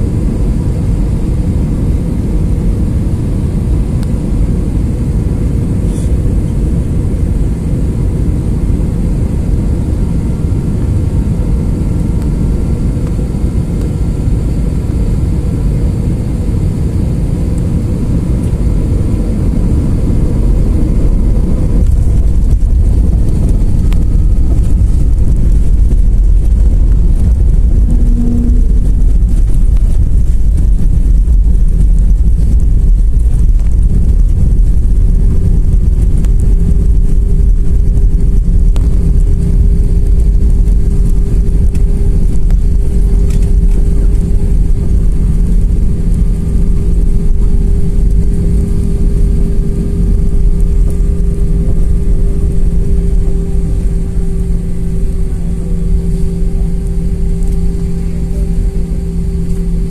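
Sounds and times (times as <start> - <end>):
airflow rush in aircraft cabin: 0.0 - 59.9
jet engine drone: 0.0 - 59.9.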